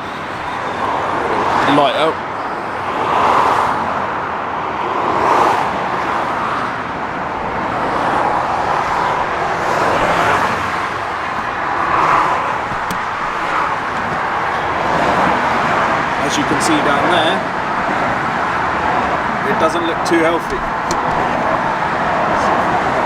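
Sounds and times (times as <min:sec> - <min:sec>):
motorway traffic rushing past: 0:00.0 - 0:23.0.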